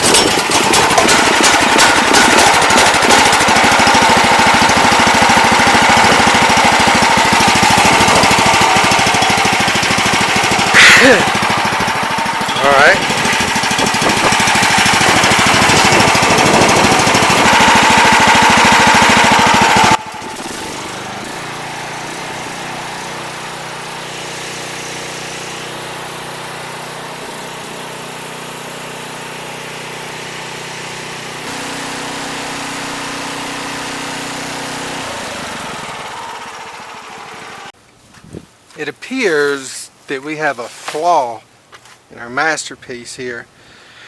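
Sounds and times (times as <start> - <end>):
pressure washer engine rattling: 0.0 - 37.8.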